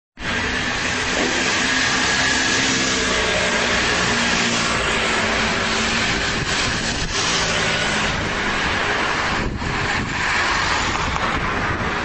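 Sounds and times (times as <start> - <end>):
wind on microphone: 0.2 - 12.0.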